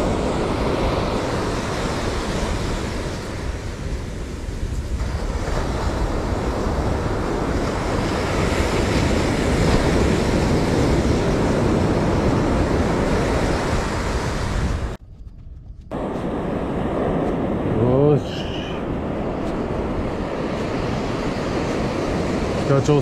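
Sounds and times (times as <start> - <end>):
rushing sea water: 0.0 - 15.0, 16.0 - 23.0
wind buffeting microphone: 0.0 - 23.0.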